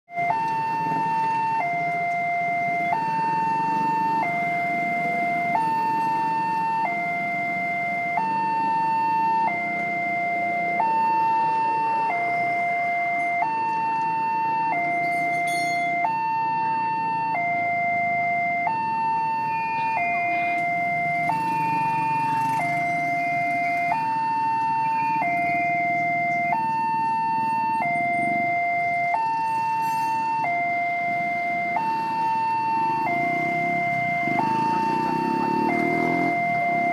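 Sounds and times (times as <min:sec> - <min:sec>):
level crossing two-tone alarm: 0:00.1 - 0:36.9
low rumble of engines: 0:00.1 - 0:36.9.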